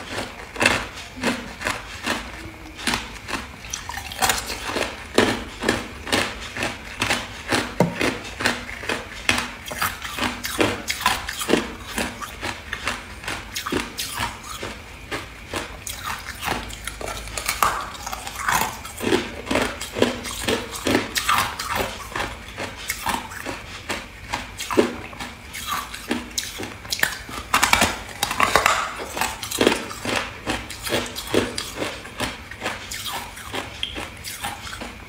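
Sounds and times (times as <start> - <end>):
chewing and crunching ice: 0.0 - 35.0.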